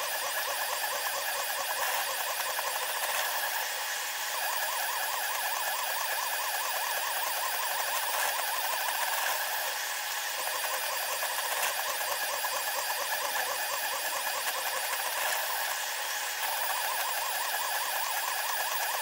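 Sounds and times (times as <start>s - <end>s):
stepper motors warbling whine: 0.0s - 19.0s.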